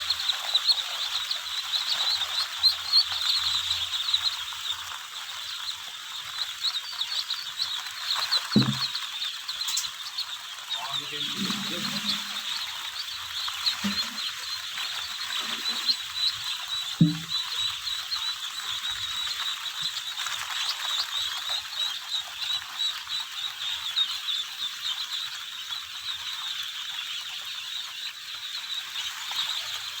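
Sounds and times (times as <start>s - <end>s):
ducklings peeping: 0.0s - 30.0s.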